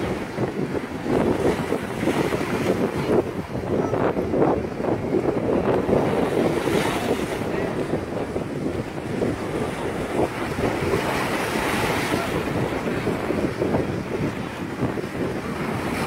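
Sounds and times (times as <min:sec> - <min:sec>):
waves splashing against rocks: 0:00.0 - 0:16.0
wind rumbling on microphone: 0:00.0 - 0:16.0.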